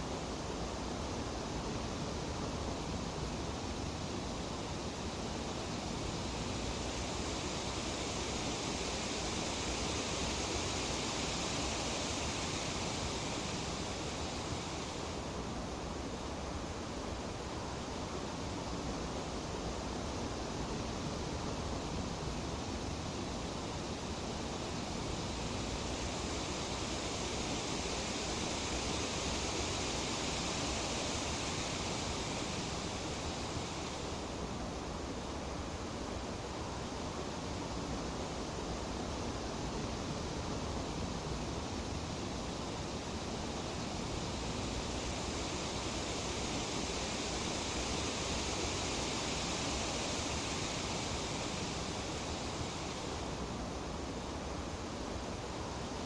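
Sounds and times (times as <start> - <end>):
leaves rustling in wind: 0.0 - 56.0.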